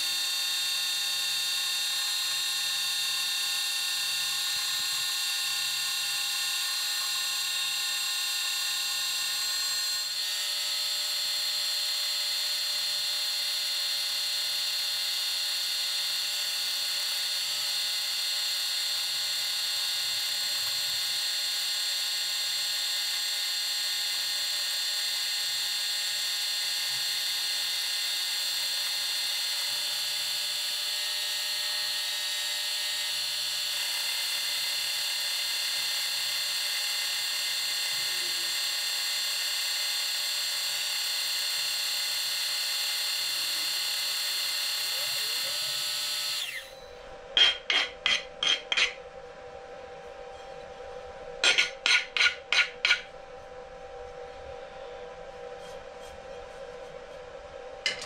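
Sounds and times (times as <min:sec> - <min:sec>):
milling machine high-pitched whine: 0:00.0 - 0:58.0.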